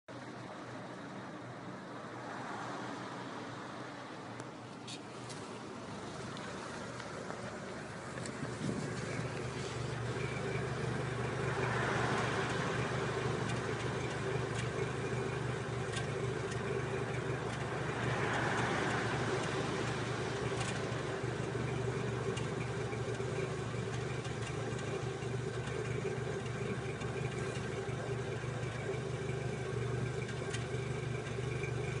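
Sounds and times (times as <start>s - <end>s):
car engine idling: 0.1s - 32.0s.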